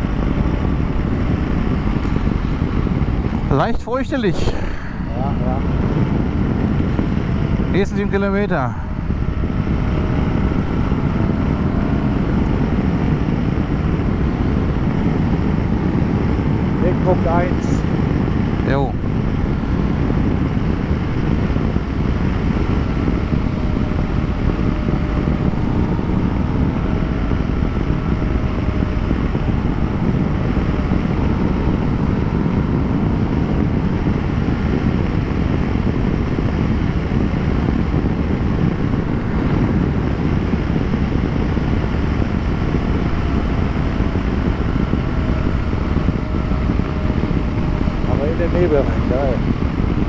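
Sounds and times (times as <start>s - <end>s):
faint motorcycle engine: 0.0s - 50.0s
wind rushing over microphone: 0.0s - 50.0s.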